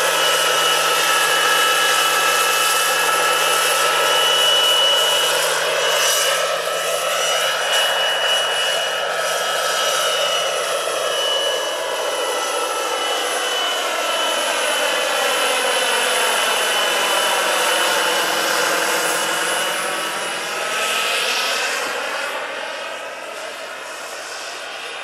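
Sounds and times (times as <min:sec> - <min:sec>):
model helicopter turbine whine: 0:00.0 - 0:25.0.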